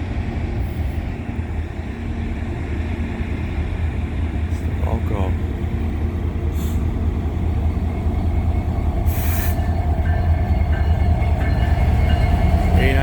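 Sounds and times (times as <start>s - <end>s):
locomotive engine rumble: 0.0s - 13.0s.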